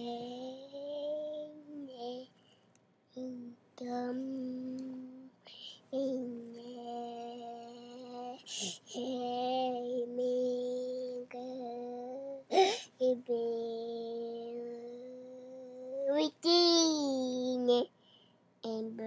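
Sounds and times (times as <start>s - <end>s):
child singing long held notes: 0.0s - 2.3s, 3.1s - 17.9s.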